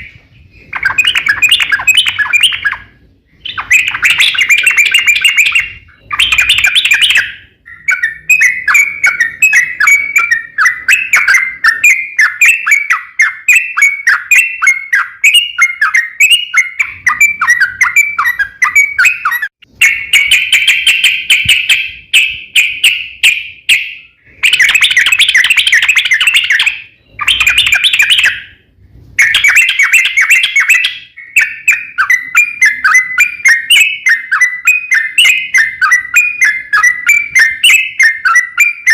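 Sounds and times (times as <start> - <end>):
bird chattering warbling song: 0.0 - 28.6, 29.2 - 38.9.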